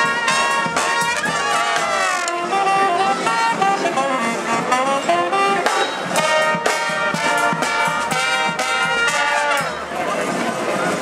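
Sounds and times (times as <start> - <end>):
drum beat: 0.0 - 3.7, 4.7 - 9.9
brass band playing: 0.0 - 10.6.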